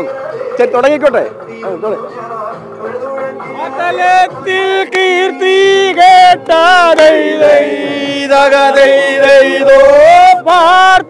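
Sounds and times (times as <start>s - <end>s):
men singing without instruments: 1.5s - 11.0s.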